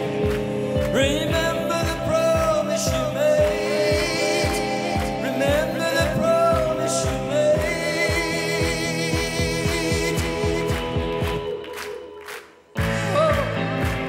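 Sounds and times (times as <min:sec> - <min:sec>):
kick drum beat: 0:00.0 - 0:11.6
man singing: 0:00.0 - 0:11.6, 0:12.8 - 0:13.8
electric guitars: 0:00.0 - 0:14.0.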